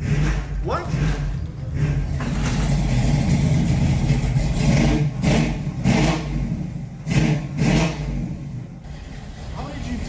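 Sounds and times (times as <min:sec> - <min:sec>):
car engine running: 0:00.0 - 0:10.0
engine revving: 0:00.0 - 0:10.0.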